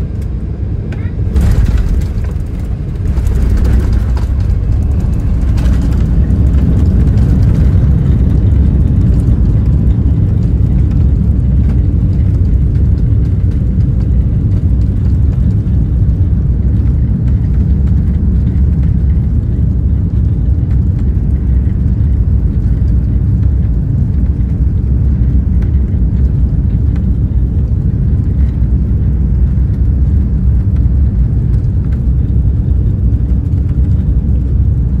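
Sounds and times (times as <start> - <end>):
airplane cabin rumble while taxiing: 0.0 - 35.0.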